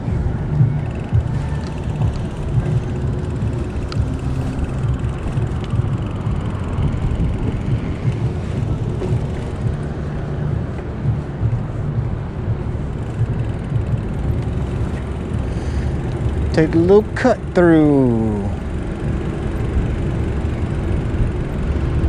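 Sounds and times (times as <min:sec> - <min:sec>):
wind buffeting microphone: 0:00.0 - 0:17.2, 0:18.0 - 0:22.0.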